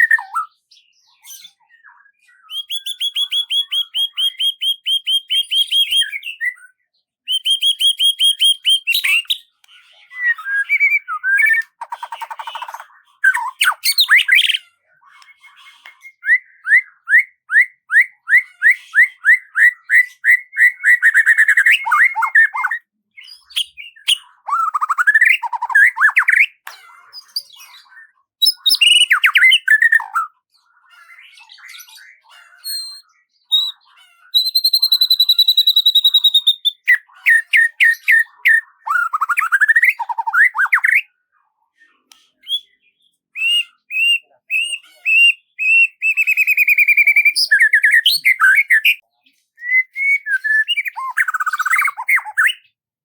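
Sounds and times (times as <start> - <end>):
songbird singing: 0.0 - 41.1, 41.9 - 52.8.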